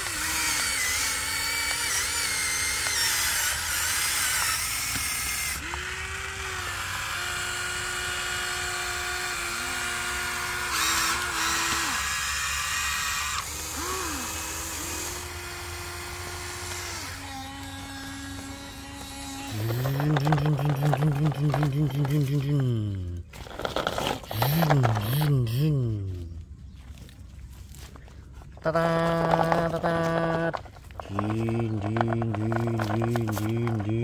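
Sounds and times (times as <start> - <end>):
toy excavator motors whining: 0.0 - 27.0, 27.7 - 34.0.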